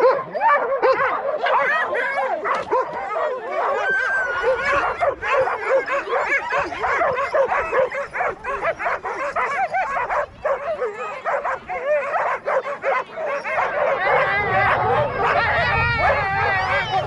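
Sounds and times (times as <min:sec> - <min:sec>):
sled dogs howling chorus: 0:00.0 - 0:17.0.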